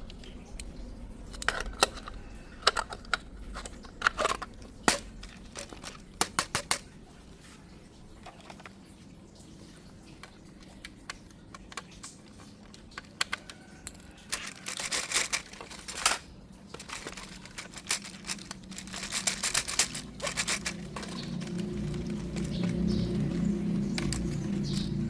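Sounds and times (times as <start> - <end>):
plastic packaging crinkling and tearing: 0.0 - 9.0, 9.9 - 25.0.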